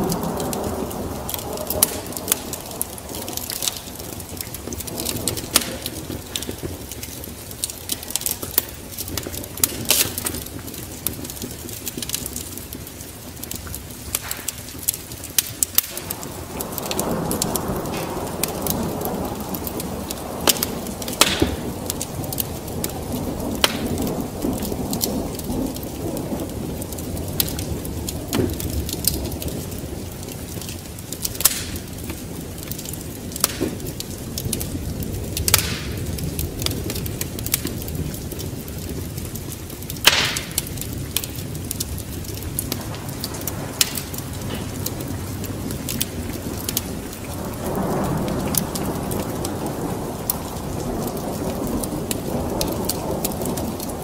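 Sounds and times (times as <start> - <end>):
low rumble of thunder: 0.0 - 54.0
rain hiss: 0.0 - 54.0
wood fire crackling and popping: 0.0 - 54.0.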